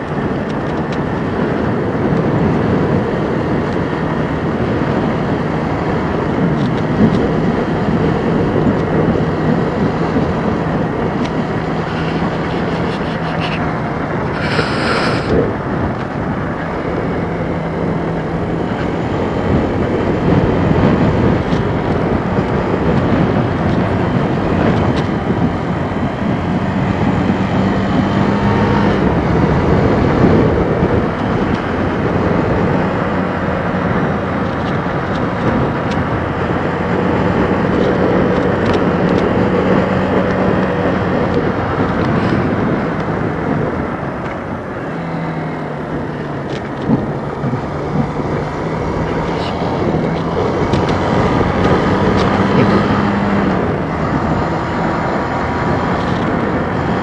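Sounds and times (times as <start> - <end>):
motorcycle engine running: 0.0 - 57.0
wind rushing on microphone: 0.0 - 57.0.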